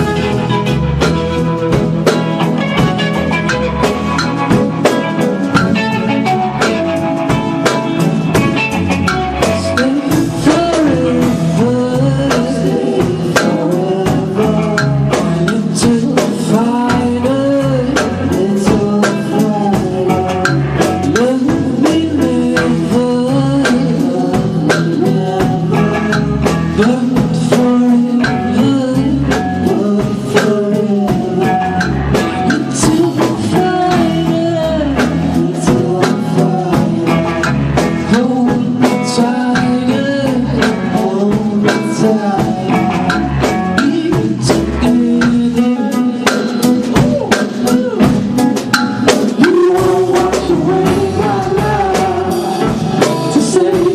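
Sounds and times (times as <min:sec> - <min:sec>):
drum kit: 0:00.0 - 0:53.9
guitars playing: 0:00.0 - 0:53.9
person singing: 0:00.0 - 0:53.9.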